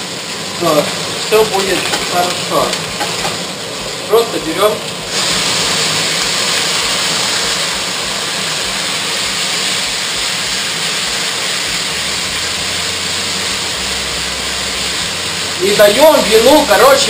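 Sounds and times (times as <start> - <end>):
wine sizzling in hot pan: 0.0 - 17.0.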